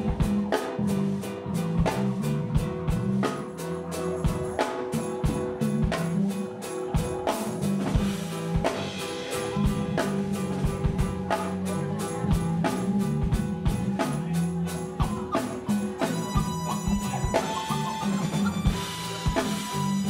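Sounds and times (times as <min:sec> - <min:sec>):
drum kit beat: 0:00.0 - 0:20.0
electric bass notes: 0:00.0 - 0:20.0
keyboard: 0:00.0 - 0:20.0.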